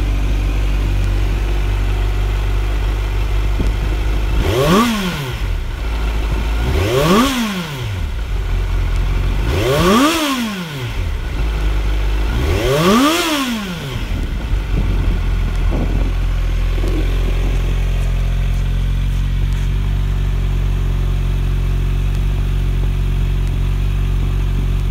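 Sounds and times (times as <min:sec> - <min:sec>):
motorcycle engine revving and idling: 0:00.0 - 0:24.9.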